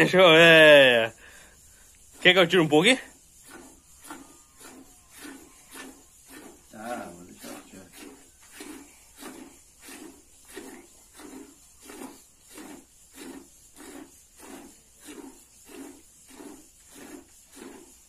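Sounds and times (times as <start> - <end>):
milk squirting into pail: 3.5 - 18.0.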